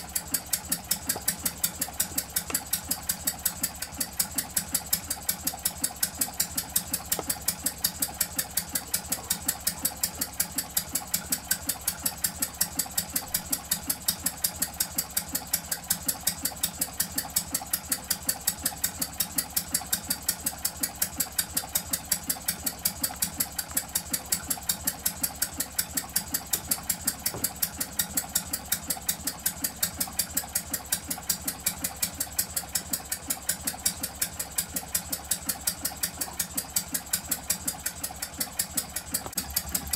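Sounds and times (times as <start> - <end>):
small engine knocking: 0.0 - 39.9.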